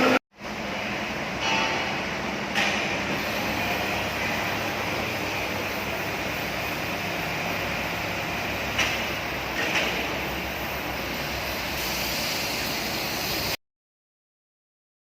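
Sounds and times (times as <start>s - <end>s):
workshop machinery running: 0.0s - 13.6s.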